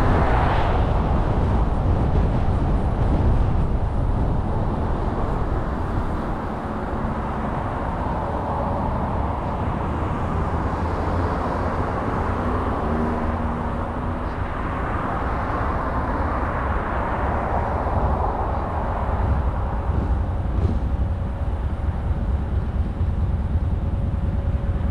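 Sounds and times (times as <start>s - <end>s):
car engine: 0.0s - 24.9s
tyre and road noise: 0.0s - 24.9s.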